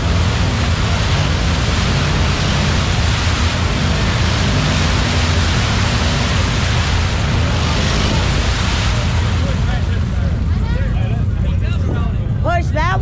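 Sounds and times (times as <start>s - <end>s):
engine roaring at high revs: 0.0s - 11.4s
tires spinning and spraying mud: 0.0s - 11.6s.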